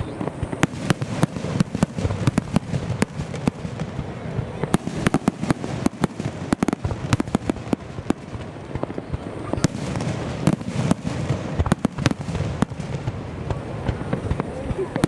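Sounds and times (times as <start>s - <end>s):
fireworks bangs and cracks: 0.0s - 15.0s.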